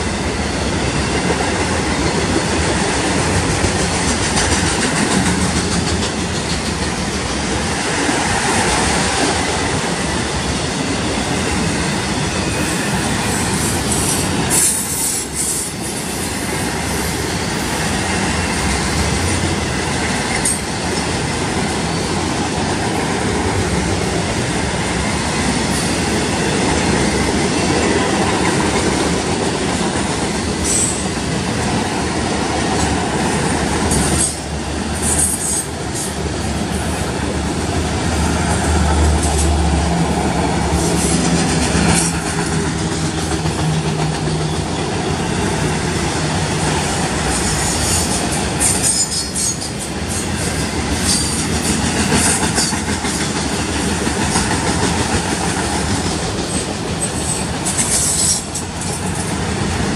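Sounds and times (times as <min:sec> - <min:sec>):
freight cars rumbling on rails: 0:00.0 - 0:59.9.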